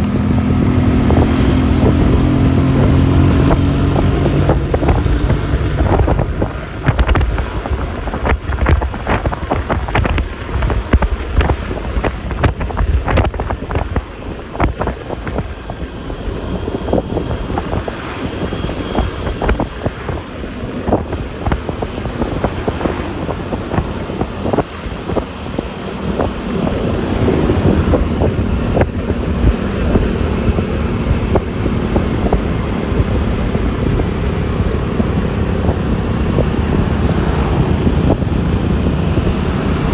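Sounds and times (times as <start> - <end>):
scooter engine and tyres hum: 0.0 - 39.9
wind buffeting microphone: 0.0 - 39.9.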